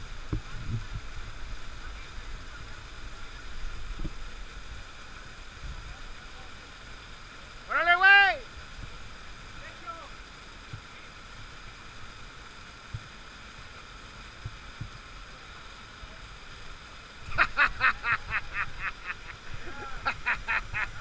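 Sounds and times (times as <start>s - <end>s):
waterfalls pouring into pool: 0.0s - 21.0s.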